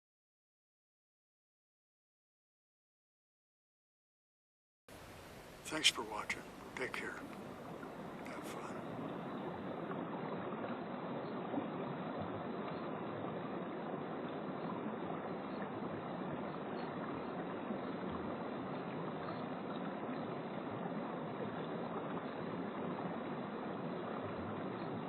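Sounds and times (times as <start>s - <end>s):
rushing outdoor background noise: 4.9s - 25.0s.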